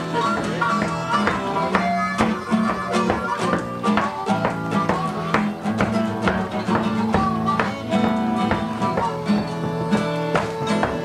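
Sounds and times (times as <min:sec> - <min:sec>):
plucked string instrumental music: 0:00.0 - 0:11.0.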